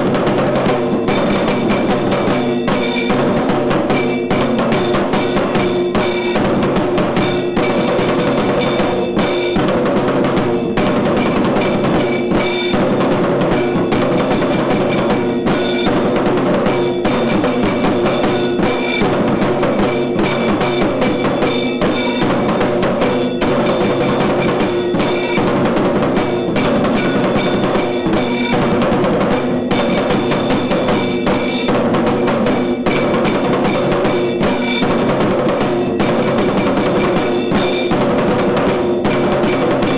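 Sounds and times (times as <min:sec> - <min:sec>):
rapid percussion ensemble drumming: 0:00.0 - 0:39.9.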